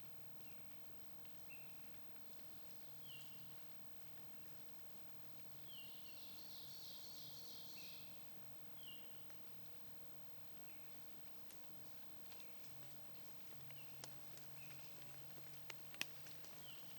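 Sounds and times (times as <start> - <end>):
background hiss: 0.0 - 16.9
songbirds chirping: 0.1 - 16.9.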